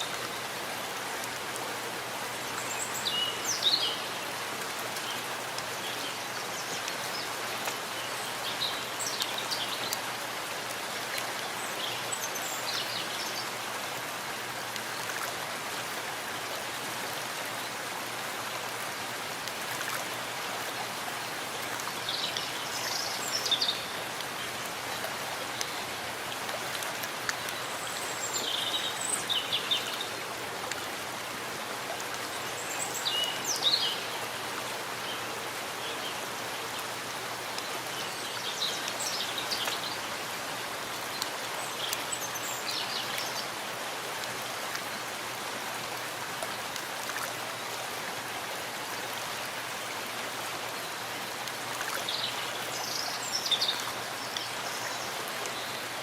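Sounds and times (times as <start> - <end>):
steady rain in a forest: 0.0 - 56.0.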